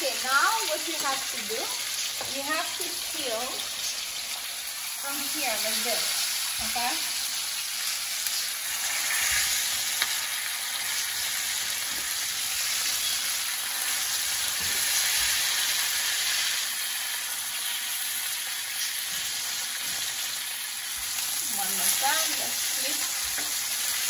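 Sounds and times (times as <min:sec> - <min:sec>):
steaks sizzling in a frying pan: 0:00.0 - 0:24.0.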